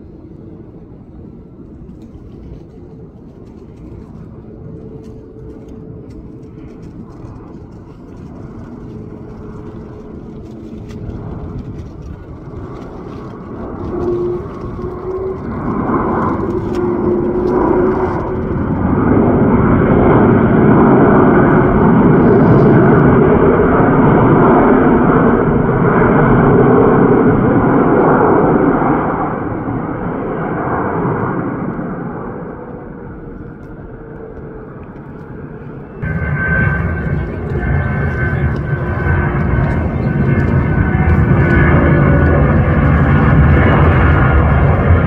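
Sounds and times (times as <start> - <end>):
jet airliner passing over: 0.0 - 45.0.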